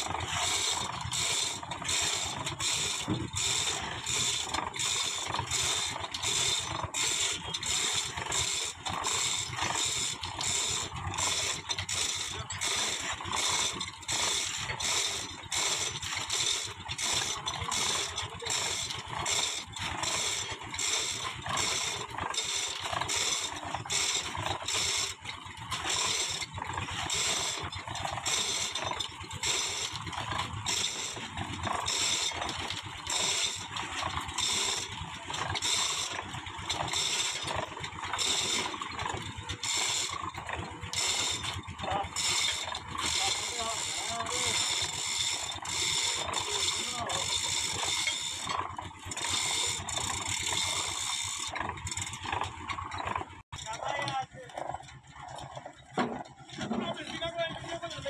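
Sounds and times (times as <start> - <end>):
fast repeating metal clatter: 0.0 - 58.0
machine rumble: 0.0 - 58.0.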